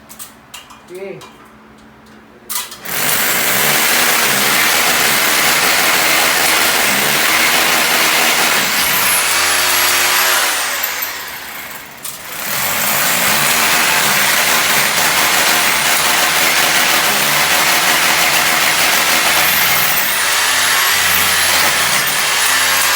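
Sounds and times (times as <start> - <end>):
power tool cutting masonry: 2.8 - 22.9.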